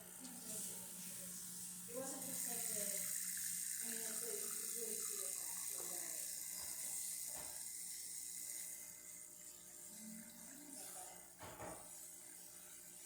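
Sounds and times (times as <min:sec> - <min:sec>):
espresso machine pump humming: 0:00.0 - 0:13.0.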